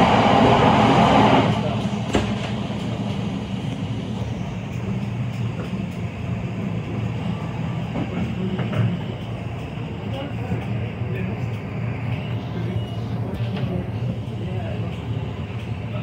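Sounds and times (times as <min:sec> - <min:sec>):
train wheels humming and rumbling: 0:00.0 - 0:16.0.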